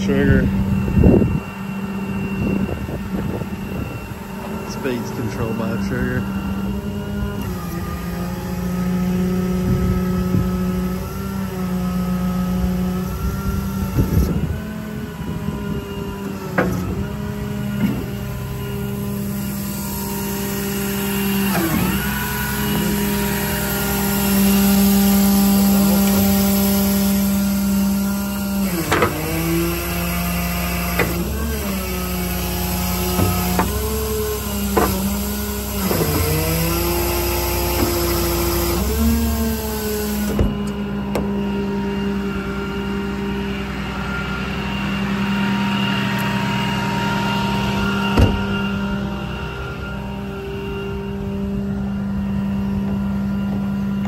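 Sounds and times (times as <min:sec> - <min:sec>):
diesel hydraulic pump whine: 0:00.0 - 0:54.0.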